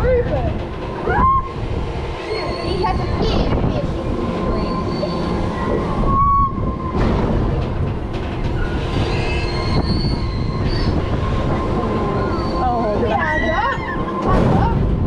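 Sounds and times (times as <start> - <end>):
steady high whine: 0.0 - 15.0
wind rushing across microphone: 0.0 - 15.0.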